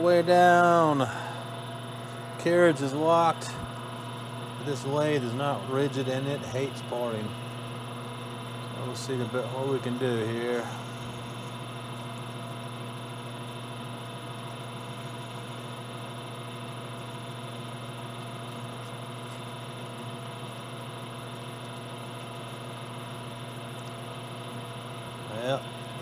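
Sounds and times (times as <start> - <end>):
lathe motor humming: 0.0 - 26.0.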